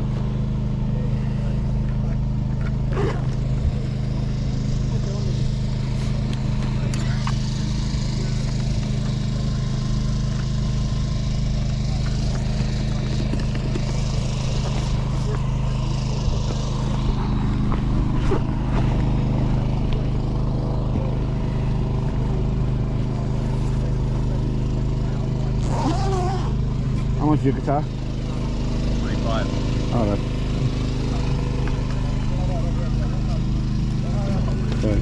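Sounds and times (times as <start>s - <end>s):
engine droning steadily: 0.0s - 35.0s.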